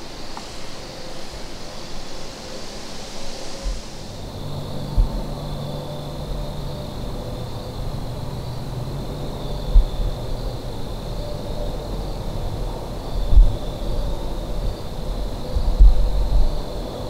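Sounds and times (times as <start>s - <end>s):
thin high drone: 0.0s - 17.0s.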